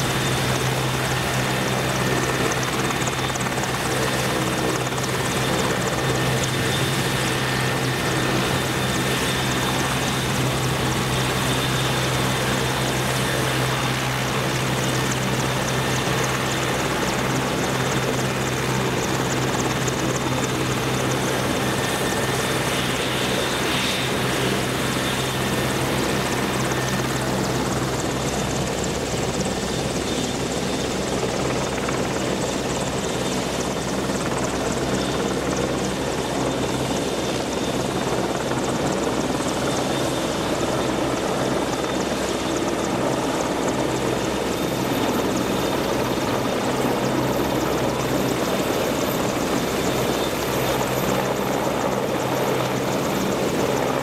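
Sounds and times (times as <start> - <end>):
helicopter rotor drone: 0.0 - 54.0.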